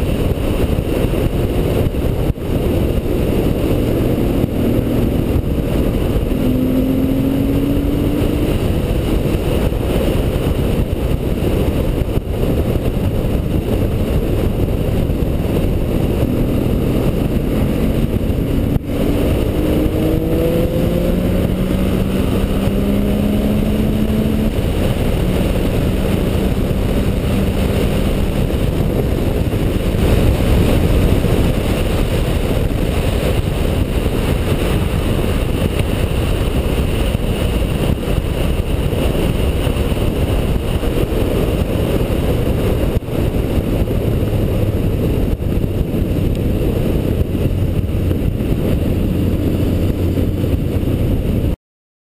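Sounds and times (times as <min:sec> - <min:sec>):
motorcycle engine running: 0:00.0 - 0:51.6
wind rush on microphone: 0:00.0 - 0:51.6.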